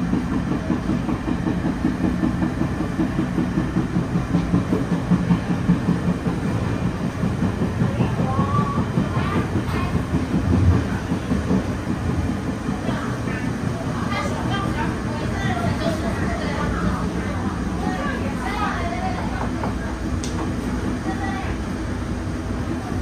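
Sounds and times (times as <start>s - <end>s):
train running rumble with hum: 0.0s - 23.0s.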